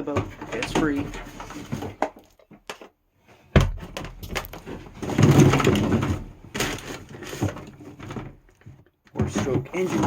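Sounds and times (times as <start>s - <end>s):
objects knocking: 0.0s - 2.9s, 3.5s - 10.0s
objects clunking: 0.0s - 10.0s
rustling and scraping: 0.0s - 10.0s.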